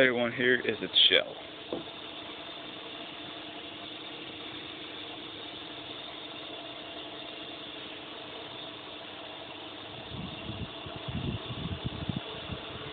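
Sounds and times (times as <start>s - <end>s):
mechanical hum: 0.0s - 12.9s.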